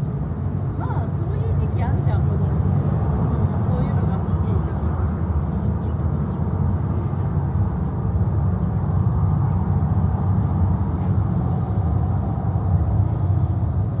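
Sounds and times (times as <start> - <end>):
jet airliner taxiing rumble: 0.0 - 14.0.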